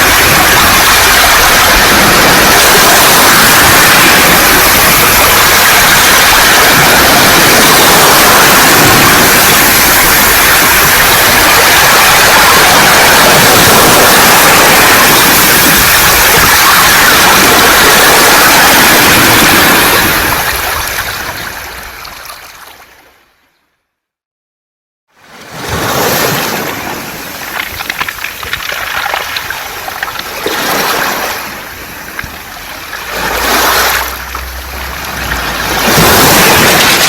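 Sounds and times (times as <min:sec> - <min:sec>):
waves washing over pebbles: 0:00.0 - 0:23.0, 0:25.4 - 0:37.0.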